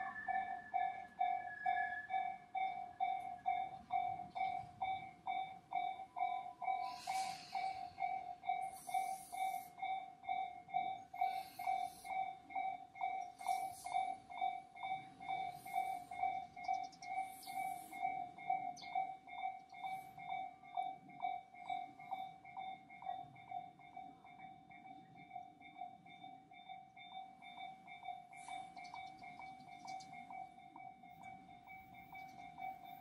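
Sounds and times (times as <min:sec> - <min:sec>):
level crossing warning bell: 0:00.0 - 0:33.0.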